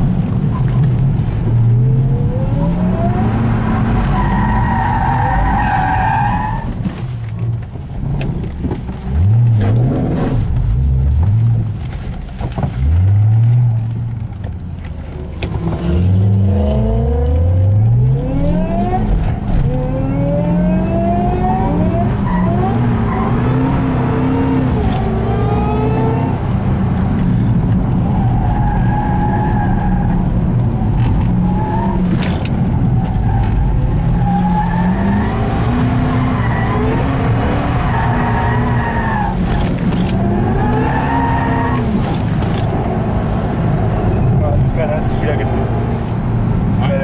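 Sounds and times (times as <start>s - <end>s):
car engine revving: 0.0s - 6.5s, 8.4s - 47.0s.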